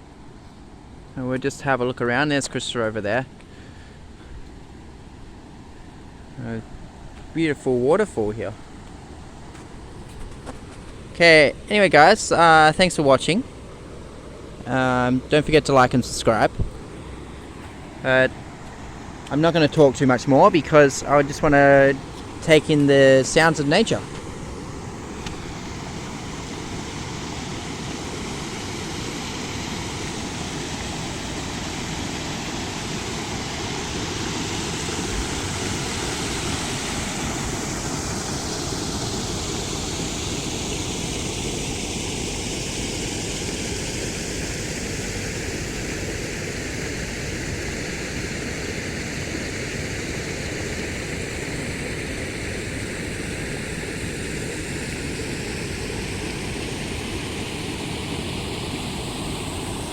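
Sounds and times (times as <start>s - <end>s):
waterfall rushing: 11.0s - 59.9s.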